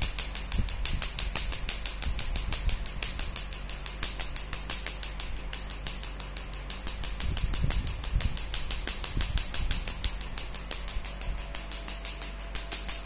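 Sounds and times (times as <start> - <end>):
laser firing sharp snaps: 0.0 - 13.0
low machine hum: 0.0 - 13.0.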